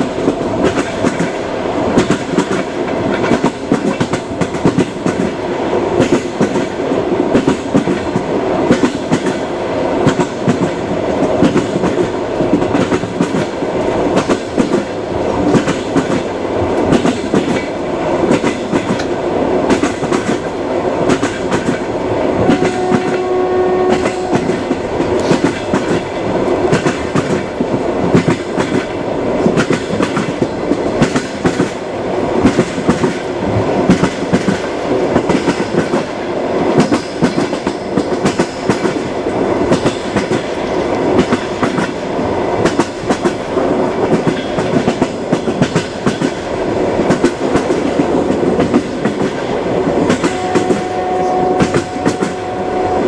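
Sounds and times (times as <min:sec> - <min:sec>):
train wheels clattering: 0:00.0 - 0:53.0.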